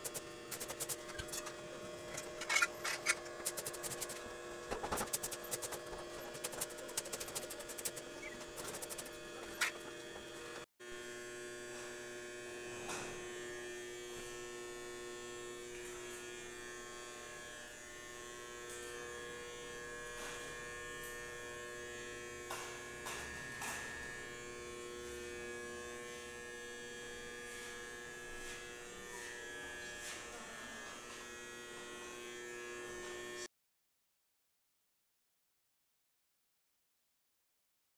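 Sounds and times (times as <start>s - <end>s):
buzzing hum: 0.0s - 33.5s.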